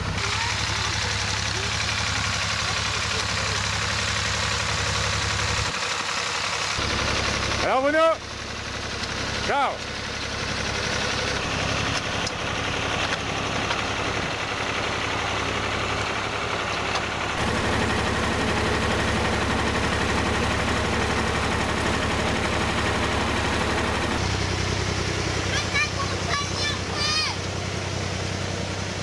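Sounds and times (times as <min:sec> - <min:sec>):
old tractor engine running: 0:00.0 - 0:29.0.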